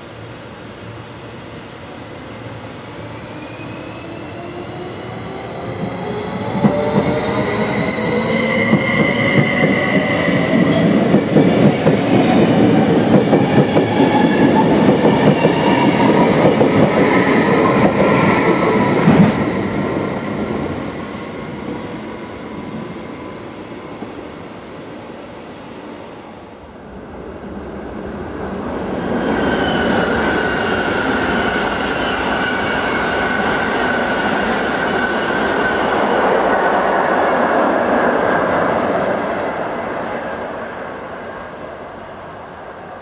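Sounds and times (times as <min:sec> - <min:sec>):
electric train rumbling past: 0:00.0 - 0:43.0.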